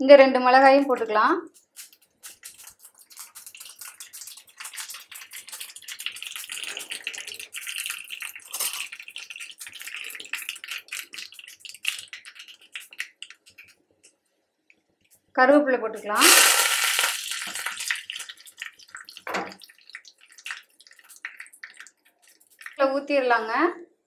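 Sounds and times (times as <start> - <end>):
seeds sizzling and popping in oil: 1.5 - 15.3, 16.1 - 23.0.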